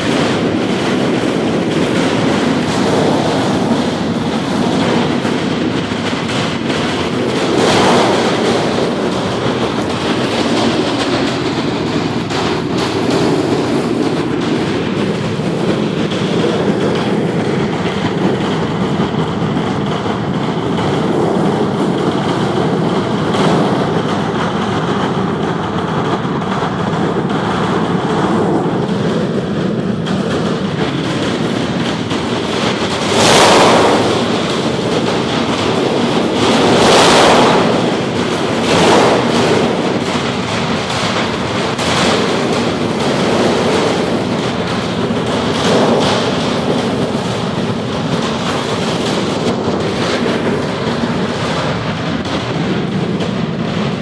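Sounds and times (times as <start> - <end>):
aircraft engine rushing noise: 0.0 - 54.0.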